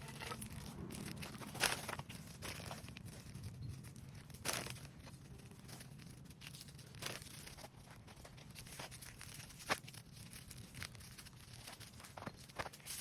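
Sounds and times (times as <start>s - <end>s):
litter crinkling and rustling: 0.0s - 13.0s.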